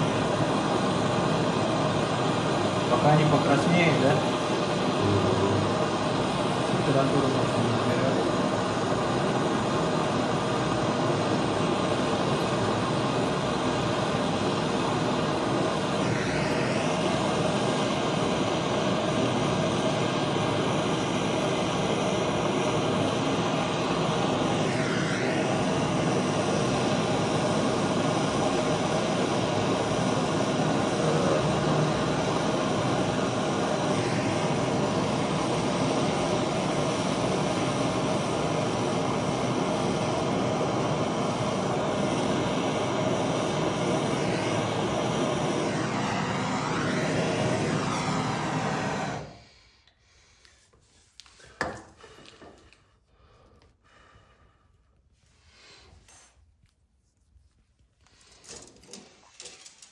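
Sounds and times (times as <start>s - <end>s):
gas torch hissing: 0.0s - 56.4s, 58.0s - 59.9s.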